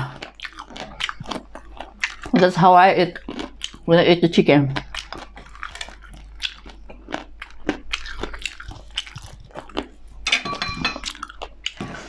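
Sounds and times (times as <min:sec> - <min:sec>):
chewing crunchy chicken: 0:00.0 - 0:10.3, 0:11.0 - 0:12.0.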